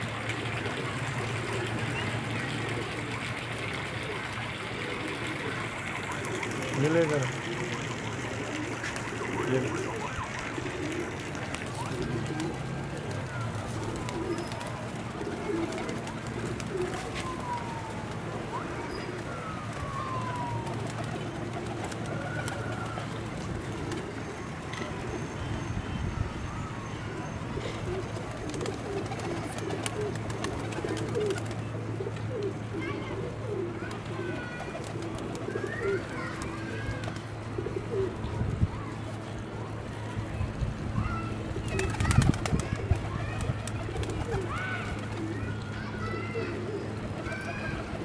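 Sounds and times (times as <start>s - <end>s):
pigeons cooing: 0.0s - 25.1s, 26.6s - 38.4s, 41.0s - 48.0s.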